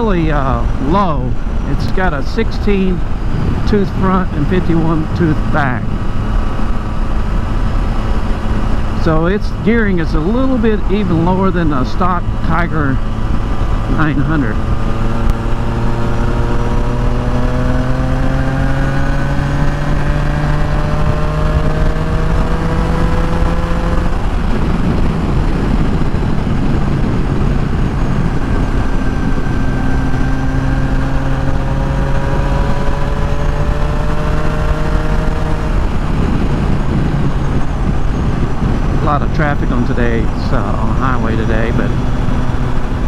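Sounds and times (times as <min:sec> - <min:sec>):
motorcycle engine accelerating: 0:00.0 - 0:43.0
wind and road rush: 0:00.0 - 0:43.0.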